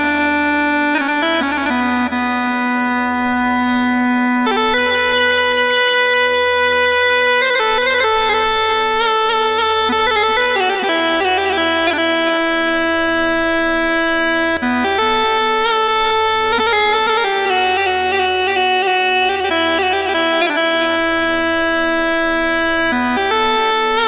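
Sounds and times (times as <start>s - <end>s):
reedy wind instrument melody: 0.0s - 24.0s.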